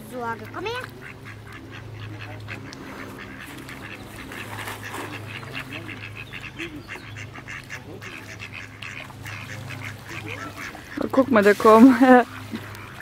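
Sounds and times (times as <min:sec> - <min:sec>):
steady low hum: 0:00.0 - 0:13.0
ducks quacking: 0:00.1 - 0:13.0.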